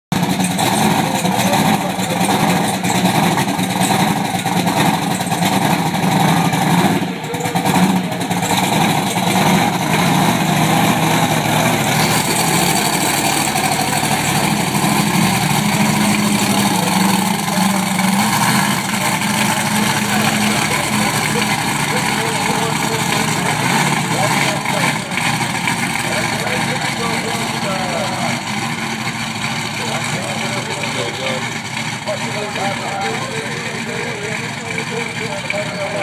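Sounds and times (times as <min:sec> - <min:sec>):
monster truck engine running: 0:00.1 - 0:36.0.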